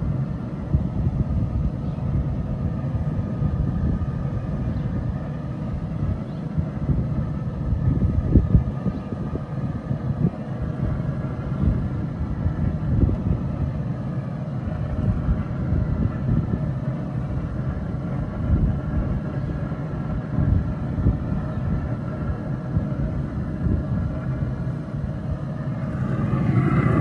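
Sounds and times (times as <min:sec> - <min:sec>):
faint steady hum: 0:00.0 - 0:27.0
wind buffeting the microphone: 0:00.0 - 0:27.0.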